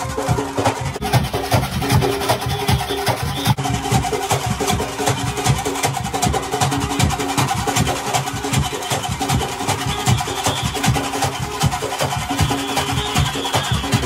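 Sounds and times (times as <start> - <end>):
hand drums beating fast rhythm: 0.0 - 14.0.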